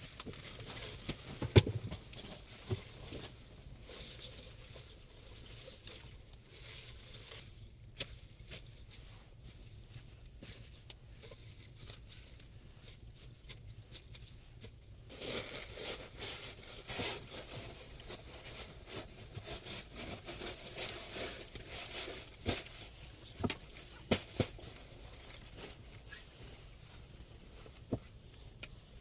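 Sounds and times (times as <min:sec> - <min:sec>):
rustling handling noise: 0:00.0 - 0:29.0.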